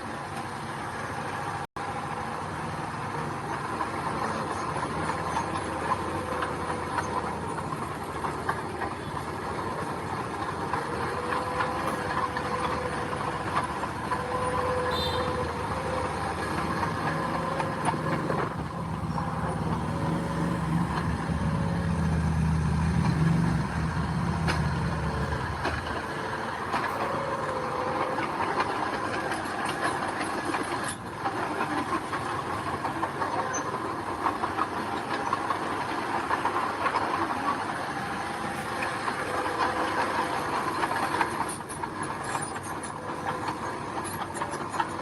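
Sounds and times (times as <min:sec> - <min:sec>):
low diesel engine drone: 0:00.0 - 0:45.0
mechanical clatter and squeal: 0:03.0 - 0:45.0.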